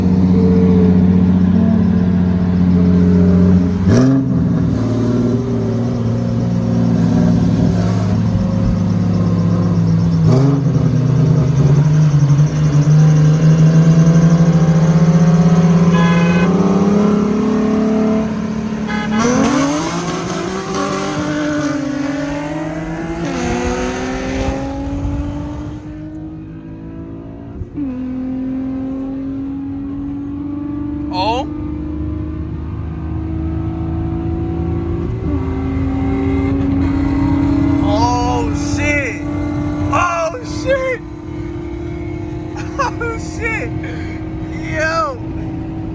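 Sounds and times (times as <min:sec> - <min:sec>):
car engine at full throttle: 0:00.0 - 0:45.9.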